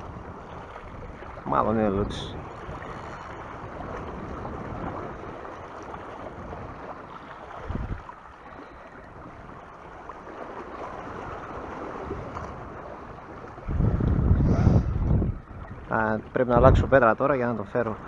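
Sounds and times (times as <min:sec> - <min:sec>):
wind on microphone: 0:00.0 - 0:09.7, 0:10.8 - 0:17.0
sea washing: 0:00.0 - 0:18.0.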